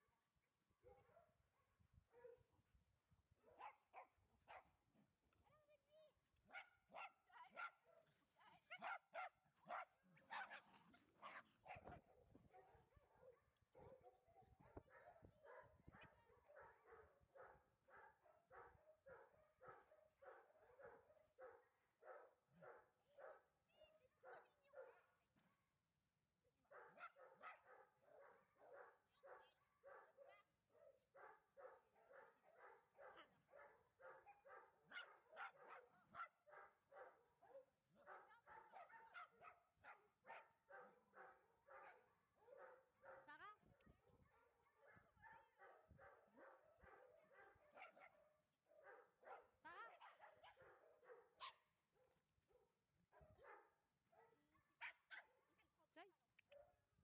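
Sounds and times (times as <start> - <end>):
dog barking: 2.1 - 2.4, 3.4 - 4.8, 6.5 - 23.5, 24.1 - 25.1, 26.7 - 55.7.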